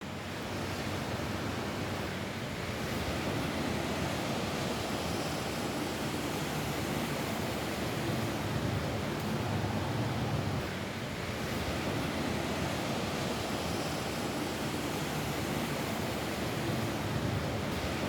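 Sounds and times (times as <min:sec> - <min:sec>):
rain on a roof: 0:00.0 - 0:18.0.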